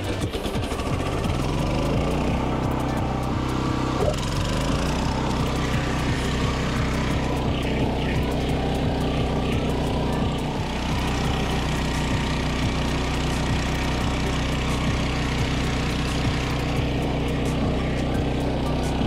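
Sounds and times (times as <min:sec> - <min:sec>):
mower engine cutting grass: 0:00.0 - 0:19.0.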